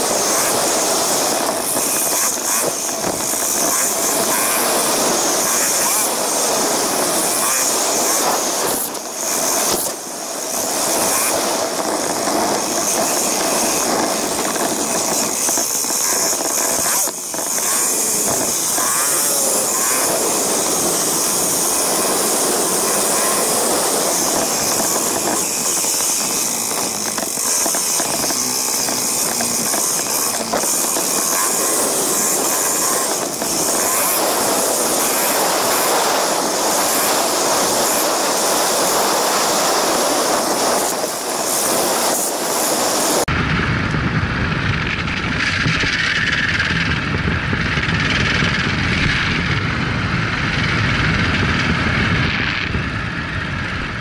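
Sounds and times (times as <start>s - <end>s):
motorcycle engine running: 0.0s - 54.0s
rushing riding noise: 0.0s - 54.0s.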